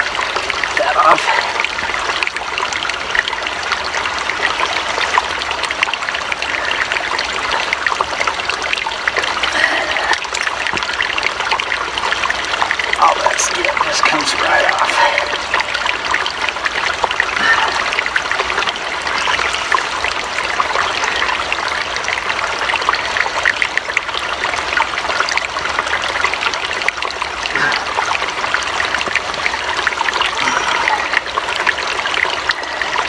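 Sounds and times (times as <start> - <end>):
stream trickling and babbling: 0.0 - 33.0.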